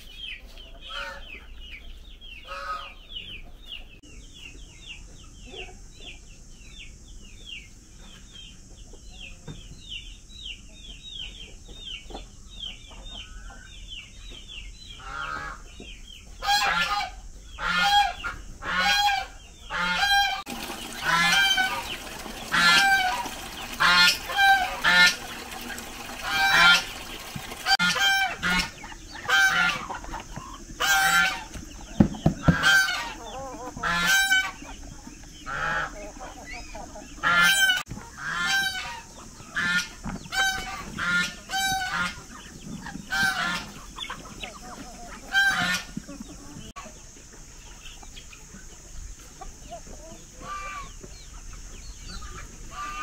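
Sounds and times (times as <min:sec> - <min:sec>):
poultry calling: 0:00.0 - 0:04.0, 0:10.6 - 0:53.0.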